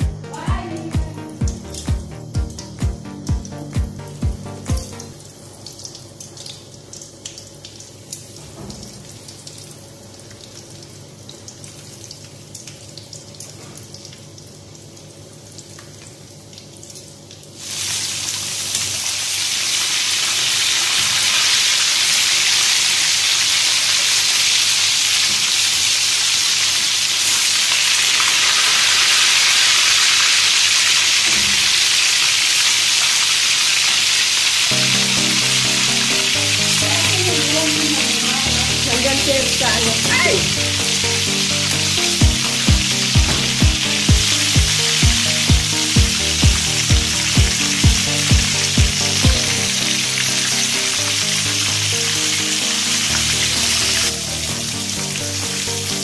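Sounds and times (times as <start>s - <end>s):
chicken wings frying in oil: 1.3s - 56.0s.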